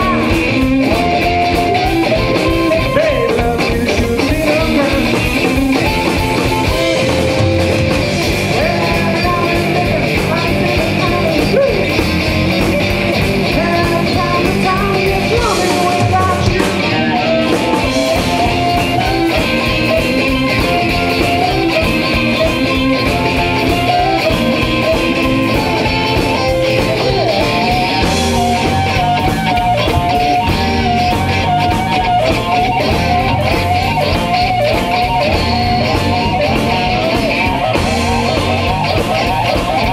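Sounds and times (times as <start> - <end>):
bending lead guitar line: 0.0 - 39.9
blues band playing live: 0.0 - 39.9
blues harmonica: 0.0 - 39.9.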